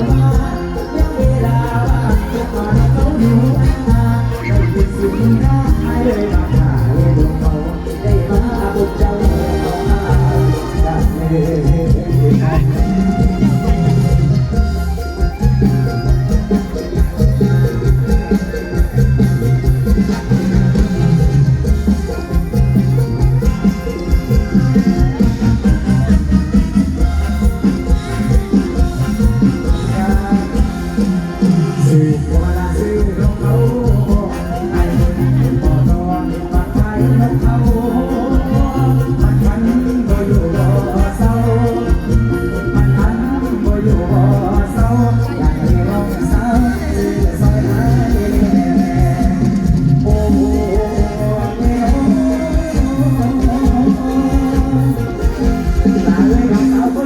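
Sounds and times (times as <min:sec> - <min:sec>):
live band music with heavy bass: 0:00.0 - 0:57.0.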